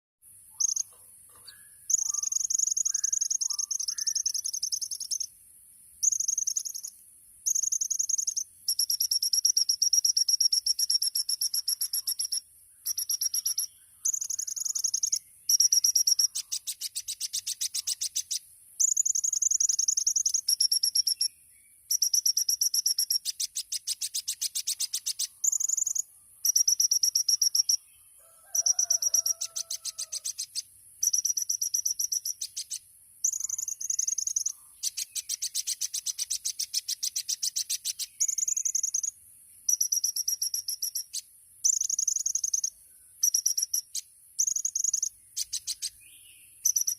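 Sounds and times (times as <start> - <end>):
faint lower bird chirps: 0.3 - 46.9
bird singing high thin song: 0.4 - 5.4, 6.0 - 46.9.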